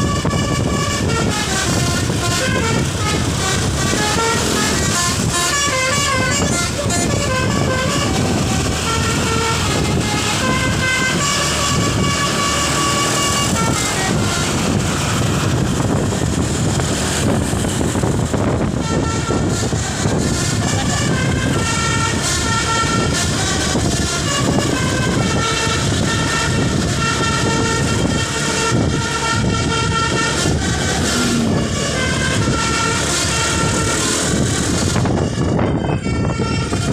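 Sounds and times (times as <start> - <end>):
low rumble: 0.0 - 35.8
bus musical horn melody: 0.0 - 36.9
low vehicle noise: 0.0 - 36.9.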